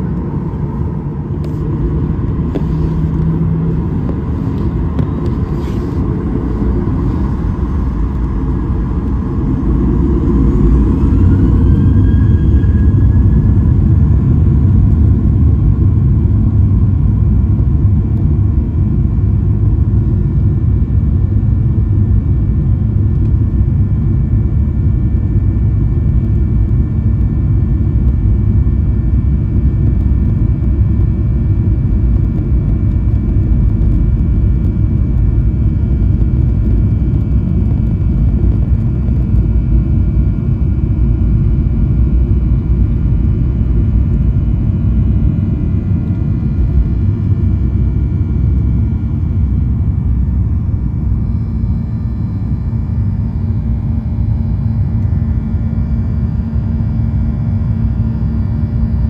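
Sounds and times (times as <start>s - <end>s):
engine whine rising: 0.0s - 59.0s
jet engine cabin rumble: 0.0s - 59.0s.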